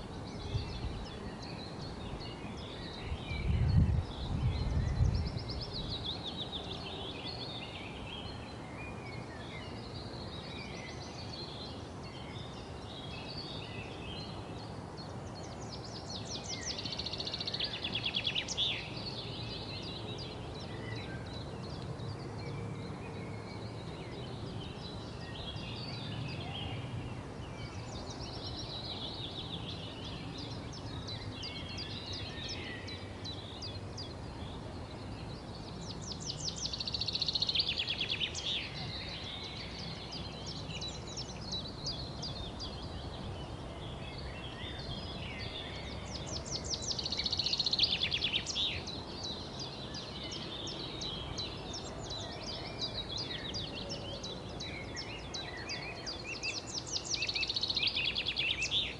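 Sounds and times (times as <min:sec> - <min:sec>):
songbirds chirping and singing: 0:00.0 - 0:58.9.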